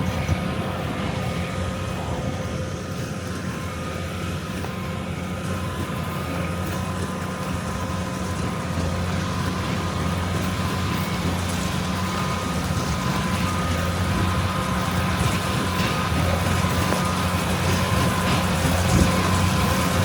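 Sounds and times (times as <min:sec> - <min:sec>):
diesel engine hum: 0:00.0 - 0:20.0
faint whining tones: 0:00.0 - 0:20.0.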